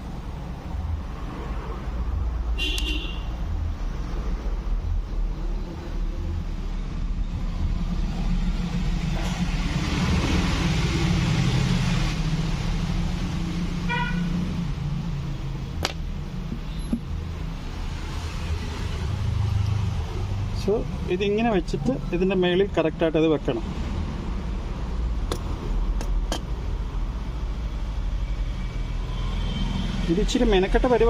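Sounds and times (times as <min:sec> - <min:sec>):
road traffic rumbling: 0:00.0 - 0:31.0.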